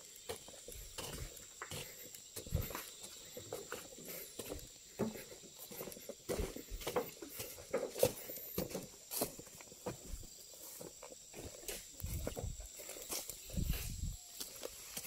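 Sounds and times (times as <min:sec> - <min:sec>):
footsteps on dirt: 0:00.0 - 0:15.0.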